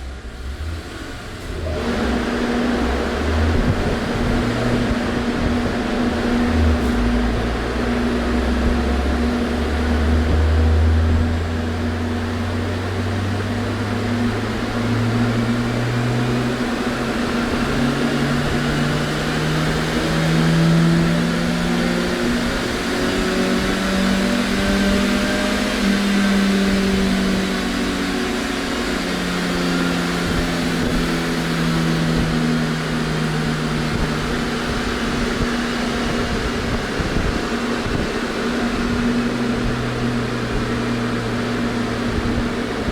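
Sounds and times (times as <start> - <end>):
car engine revving on dynamometer: 0.0 - 42.9.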